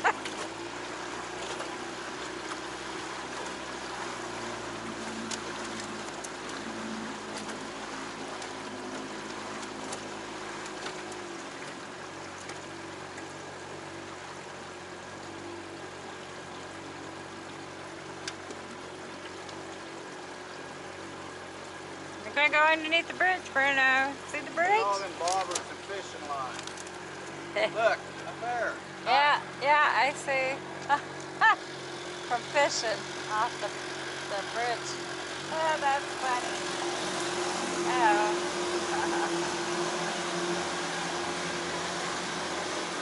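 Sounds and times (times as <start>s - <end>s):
boat motor hum: 0.0s - 43.0s
water rushing along hull: 0.0s - 43.0s.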